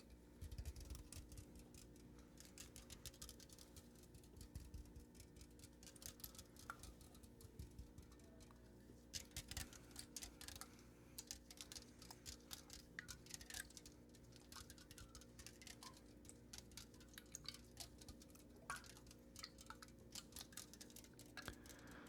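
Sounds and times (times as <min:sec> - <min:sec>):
faint steady hum: 0:00.0 - 0:22.0
soft close clicks and taps: 0:00.4 - 0:21.9.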